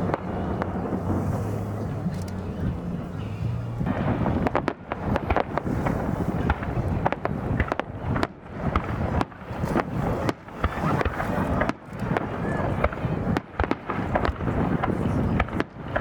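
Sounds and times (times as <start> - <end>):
fireworks cracking and banging: 0.0 - 16.0
rushing background noise: 0.0 - 16.0.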